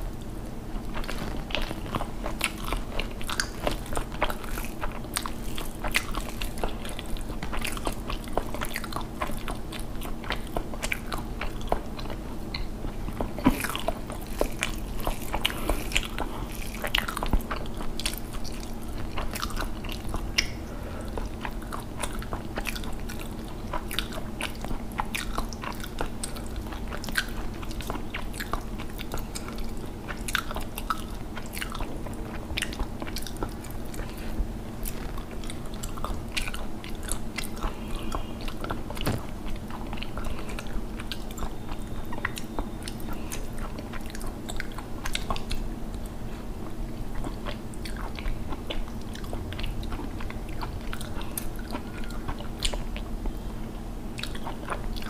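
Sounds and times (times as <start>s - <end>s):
person chewing with wet smacks: 0.0s - 55.0s.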